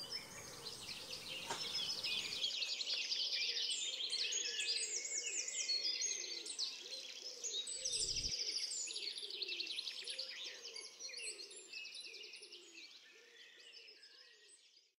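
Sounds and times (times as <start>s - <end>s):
birds chirping and trilling: 0.0s - 14.2s.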